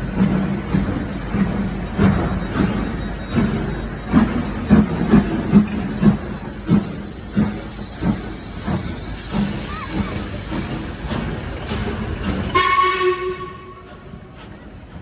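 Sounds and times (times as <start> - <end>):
train rumbling: 0.0 - 15.0
wheels clattering over rail joints: 0.0 - 15.0.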